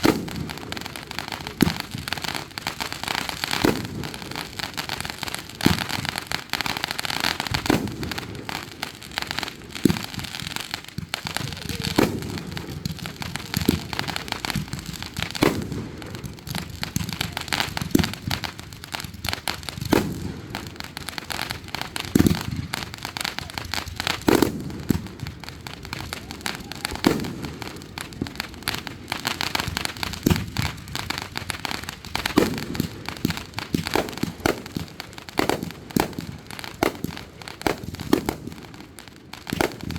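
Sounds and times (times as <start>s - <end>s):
deep fireworks booms: 0.0s - 39.9s
fireworks crackling: 0.0s - 39.9s.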